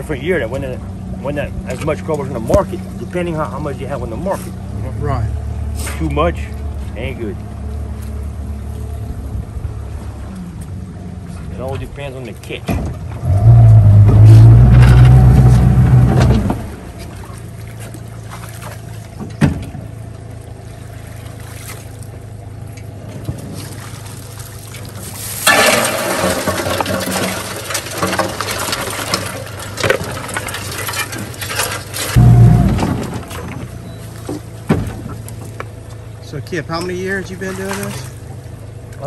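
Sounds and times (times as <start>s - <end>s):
outboard motor running: 0.0s - 39.0s.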